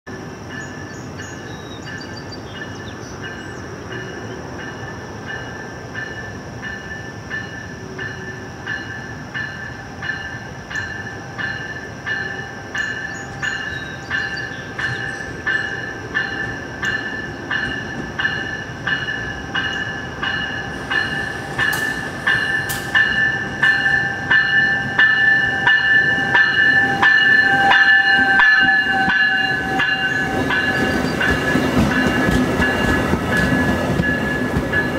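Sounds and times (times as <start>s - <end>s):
train bell ringing: 0.1s - 34.9s
train cars rumbling past: 0.1s - 34.9s.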